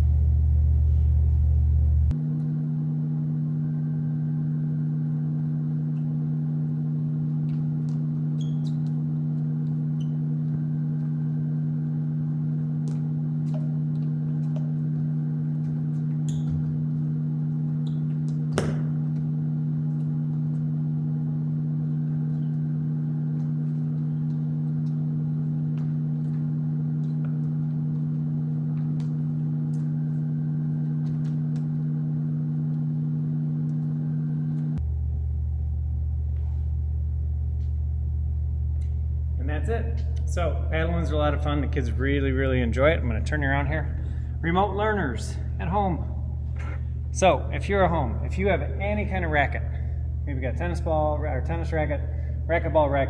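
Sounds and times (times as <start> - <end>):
low two-tone hum: 0.0 - 53.0.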